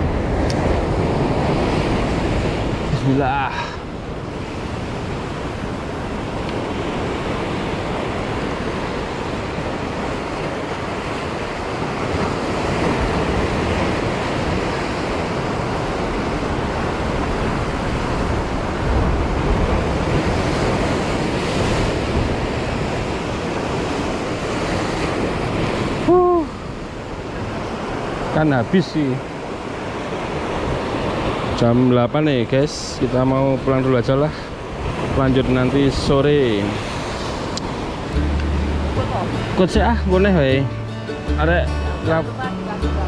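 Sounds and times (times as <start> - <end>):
sea surf breaking: 0.0 - 43.0.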